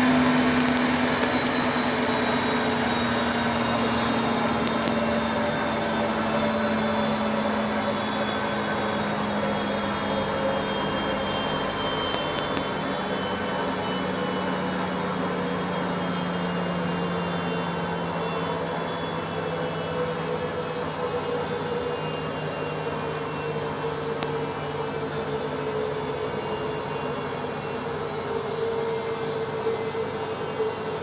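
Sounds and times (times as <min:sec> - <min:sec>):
washing machine spinning: 0:00.0 - 0:28.2.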